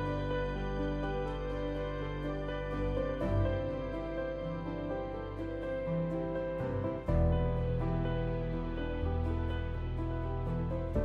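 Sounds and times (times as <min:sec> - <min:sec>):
soft sustained chords: 0:00.0 - 0:11.0.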